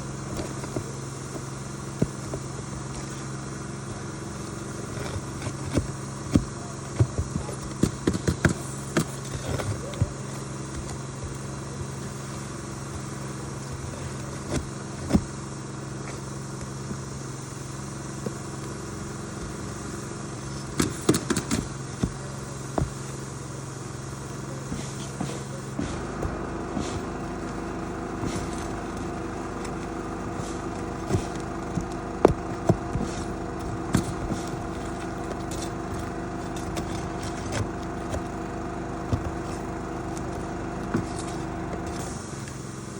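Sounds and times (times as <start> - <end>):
engine idling: 0.0 - 42.9
hand tools knocking on roof shingles: 0.2 - 3.3, 4.8 - 17.0, 20.5 - 23.3, 24.6 - 42.2.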